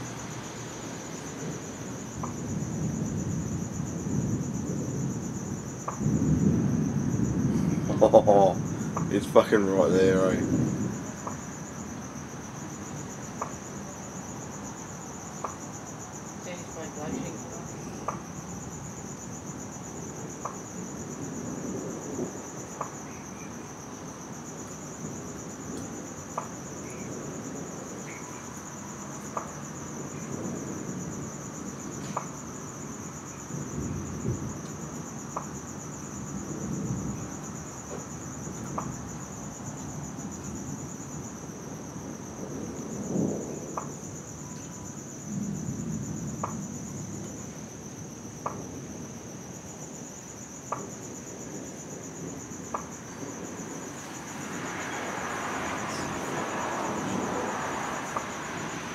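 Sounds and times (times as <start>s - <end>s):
crickets trilling: 0.0s - 58.9s
distant thunder rumbling: 0.0s - 58.9s.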